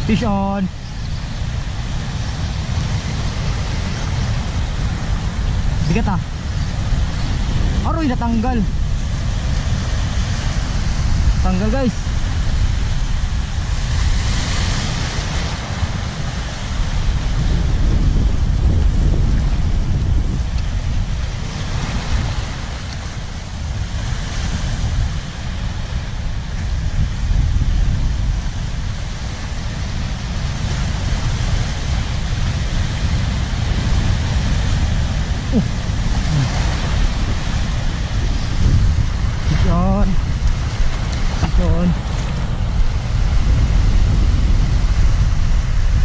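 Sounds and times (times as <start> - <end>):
small waves breaking on rocky shore: 0.0 - 46.0
surf washing over reef: 0.0 - 46.0
wind buffeting microphone: 0.0 - 46.0.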